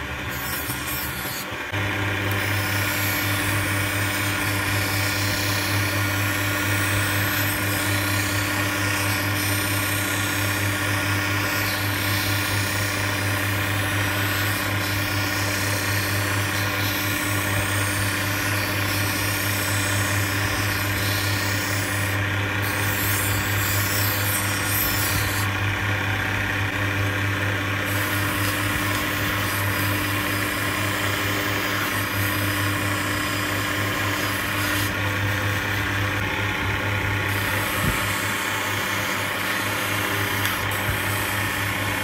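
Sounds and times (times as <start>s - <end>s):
motor humming: 0.0s - 42.0s.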